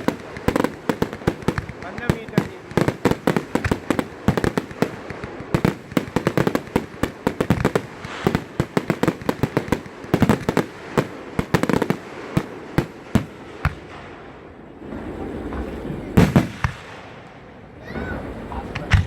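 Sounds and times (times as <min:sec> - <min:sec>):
fireworks bangs and pops: 0:00.0 - 0:17.5, 0:18.5 - 0:19.0.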